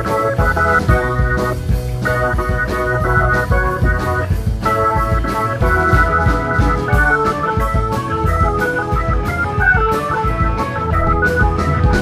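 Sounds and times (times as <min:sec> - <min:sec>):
bass guitar: 0:00.0 - 0:12.0
drum and cymbal beat: 0:00.0 - 0:12.0
electric guitar: 0:00.0 - 0:12.0
organ-toned keyboard chords: 0:00.0 - 0:12.0.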